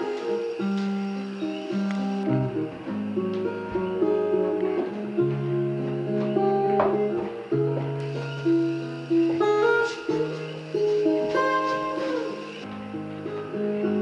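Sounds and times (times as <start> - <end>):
acoustic guitar picked chords: 0.0 - 14.0.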